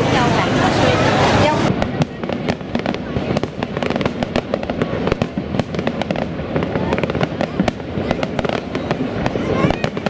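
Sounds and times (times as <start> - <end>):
voices: 0.0 - 5.3, 6.1 - 10.0
fireworks crackling: 0.0 - 10.0.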